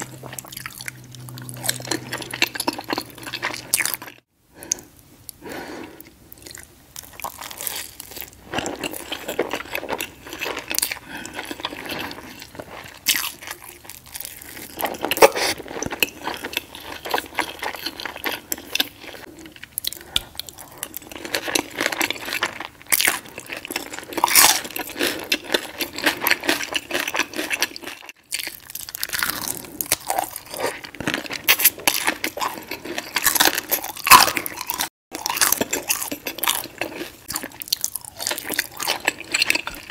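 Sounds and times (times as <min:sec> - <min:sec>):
chewing and crunching: 0:00.0 - 0:05.4, 0:06.0 - 0:39.9.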